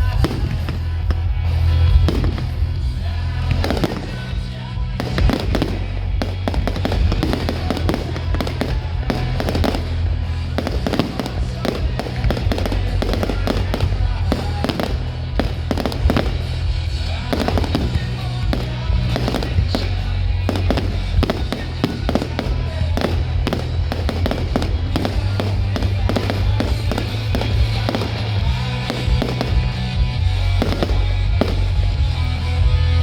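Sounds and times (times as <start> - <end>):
fireworks bangs and crackles: 0.0 - 33.0
loud music with bass: 0.0 - 33.0.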